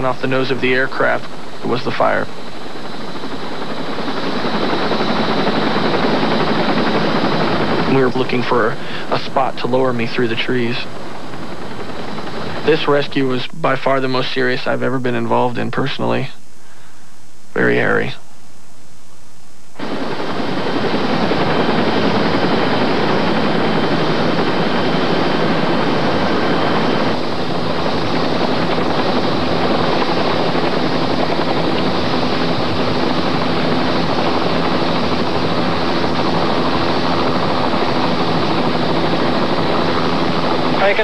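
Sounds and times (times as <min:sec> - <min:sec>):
helicopter rotor and engine: 0:00.0 - 0:16.3, 0:19.8 - 0:41.0
thin high whine: 0:00.0 - 0:41.0.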